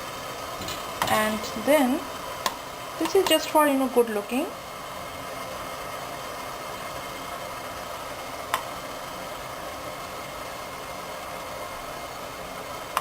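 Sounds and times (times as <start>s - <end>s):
water boiling hiss: 0.0s - 13.0s.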